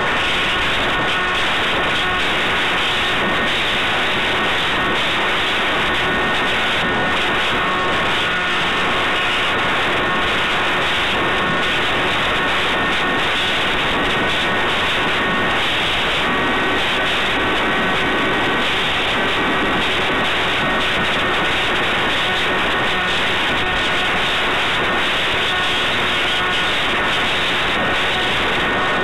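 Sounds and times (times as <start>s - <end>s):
rushing wind on microphone: 0.0s - 29.0s.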